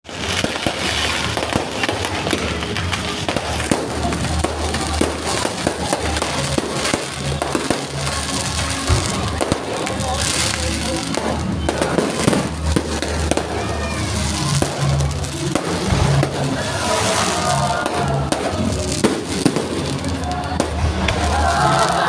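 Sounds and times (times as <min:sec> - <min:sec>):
fireworks bangs and pops: 0:00.0 - 0:22.0
music playing: 0:00.1 - 0:22.0.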